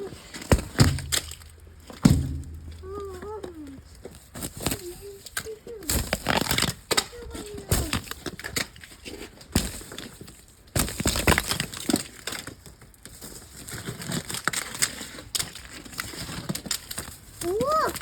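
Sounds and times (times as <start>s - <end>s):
brittle material crunching: 0.0s - 3.6s, 4.2s - 18.0s.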